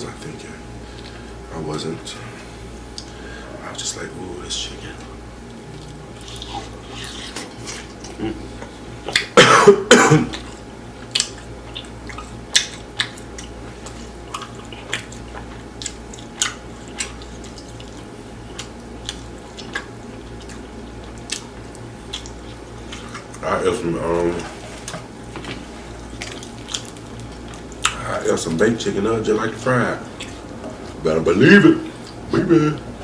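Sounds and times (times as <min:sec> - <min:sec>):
man chewing food: 0:00.8 - 0:01.5, 0:02.4 - 0:03.6, 0:04.6 - 0:33.0.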